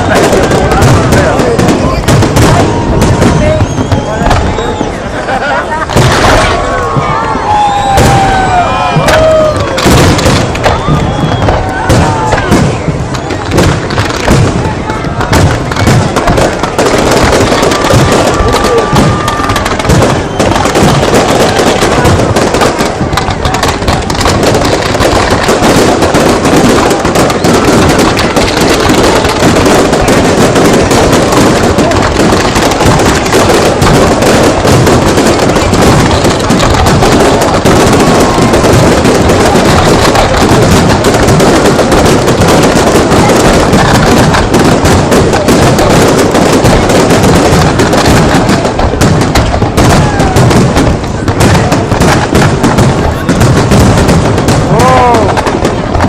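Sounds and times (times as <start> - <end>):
fireworks banging: 0.0 - 56.0.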